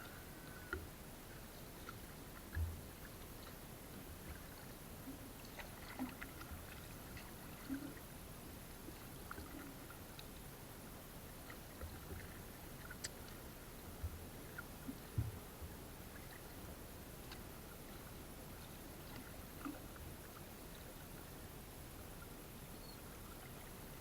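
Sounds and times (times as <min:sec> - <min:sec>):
quiet water movement: 0:00.0 - 0:24.0.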